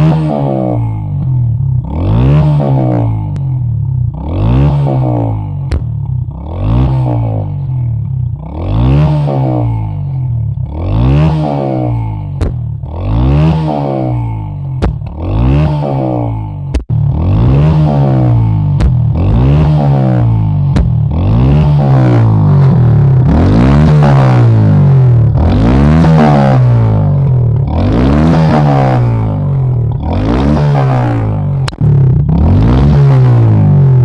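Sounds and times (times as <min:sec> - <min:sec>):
exhaust pops: 0:00.0 - 0:34.0
motorcycle engine revving: 0:00.0 - 0:34.0.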